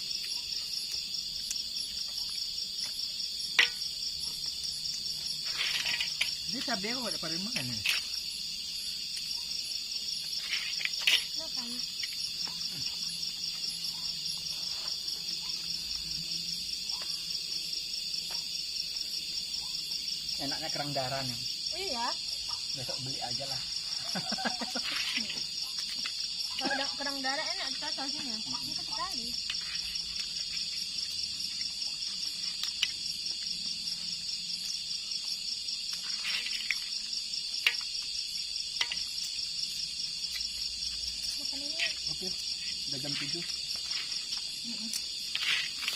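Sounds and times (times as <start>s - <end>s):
crickets chirring: 0.0s - 45.9s
night insects trilling: 0.0s - 45.9s.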